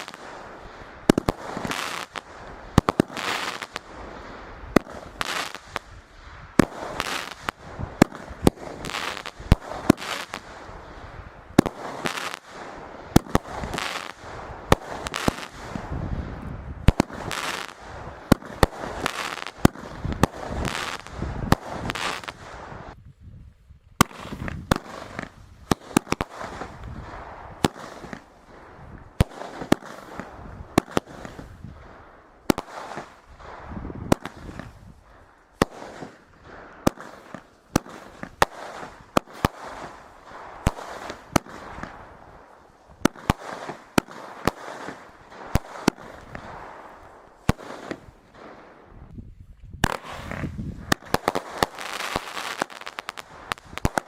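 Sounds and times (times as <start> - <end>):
firework bangs: 0.0 - 23.0, 24.0 - 49.2, 49.8 - 54.0
firework crackling and hiss: 0.0 - 23.0, 24.0 - 49.1, 49.8 - 54.0.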